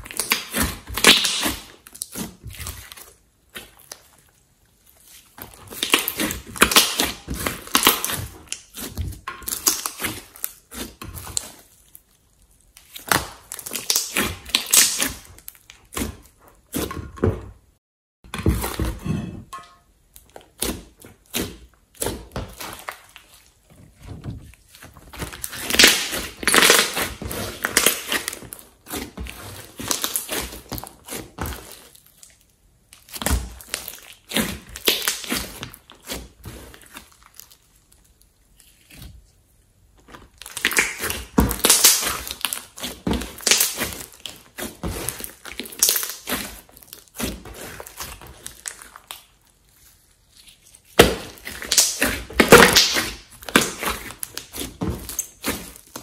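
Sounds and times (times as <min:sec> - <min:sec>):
slime squishing and crackling: 0:00.0 - 0:16.9, 0:20.1 - 0:56.0.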